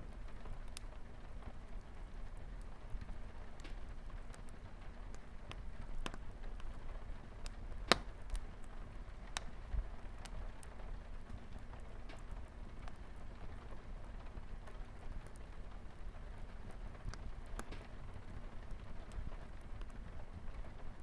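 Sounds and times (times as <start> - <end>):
light rain on a window: 0.0 - 21.0
wood fire crackling: 0.0 - 21.0.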